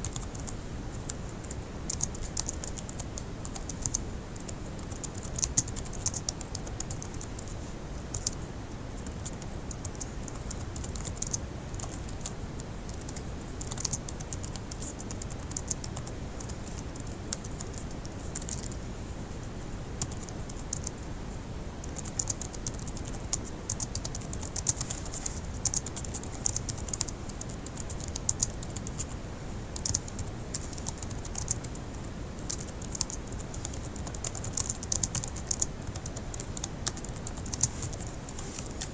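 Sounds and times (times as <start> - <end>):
laptop keyboard typing: 0.0 - 8.4, 9.0 - 18.8, 20.0 - 21.0, 21.8 - 29.2, 29.8 - 31.8, 32.5 - 38.9
faint low hum: 0.0 - 38.9.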